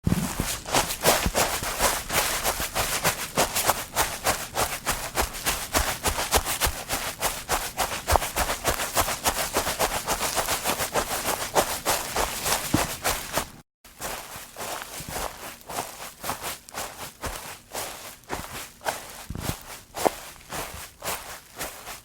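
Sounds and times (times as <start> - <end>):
footsteps on grass: 0.1 - 22.0.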